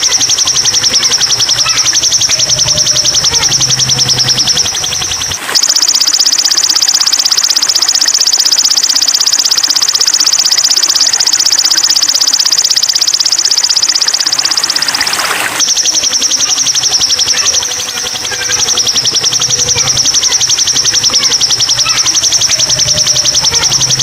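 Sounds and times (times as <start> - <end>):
bird trilling high: 0.0 - 24.0.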